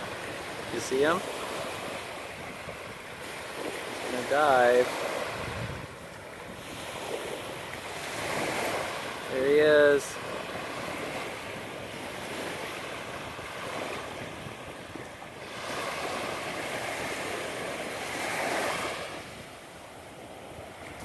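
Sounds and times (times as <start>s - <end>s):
wind buffeting microphone: 0.0s - 9.3s, 10.1s - 21.0s
ocean surf washing onto beach: 0.0s - 21.0s.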